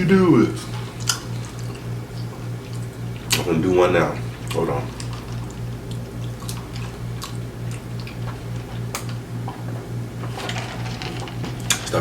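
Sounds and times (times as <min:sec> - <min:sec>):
pulsing low hum: 0:00.0 - 0:10.3.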